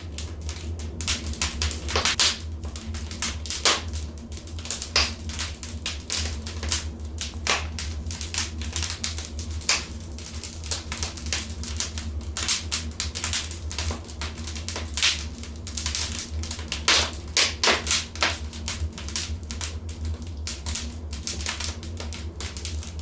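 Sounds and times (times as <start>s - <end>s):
steady low hum: 0.0s - 23.0s
wood fire crackling: 0.0s - 23.0s.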